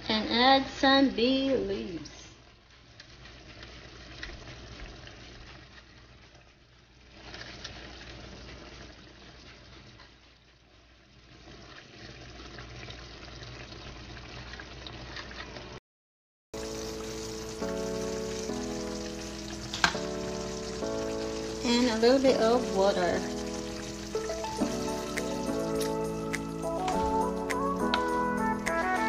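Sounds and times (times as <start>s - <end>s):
meat simmering in a frying pan: 0.3s - 15.7s, 16.6s - 26.7s.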